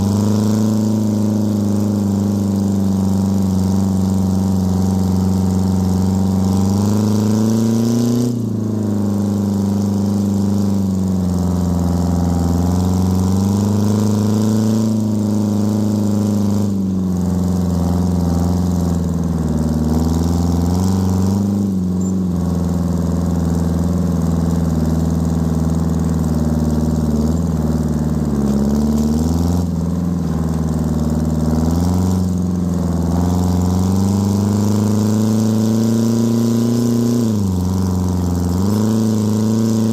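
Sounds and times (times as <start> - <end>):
diesel tractor engine running hard: 0.0 - 39.9.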